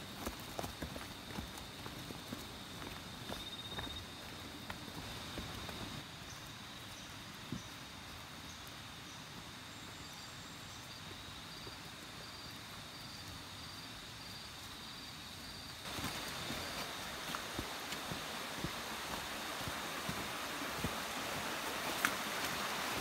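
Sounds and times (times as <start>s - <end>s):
faint insect chirp: 0.0s - 23.0s.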